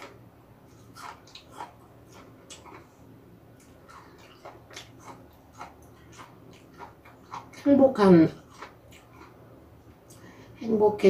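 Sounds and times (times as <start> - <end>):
person chewing crisp apple: 0.0 - 10.3.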